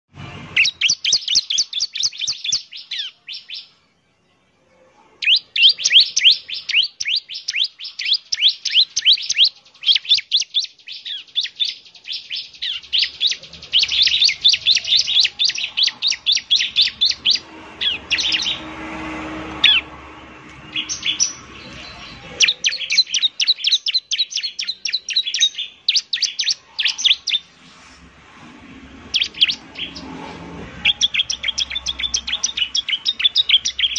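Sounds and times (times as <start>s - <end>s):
bird chirping: 0.5s - 27.8s, 29.0s - 33.9s.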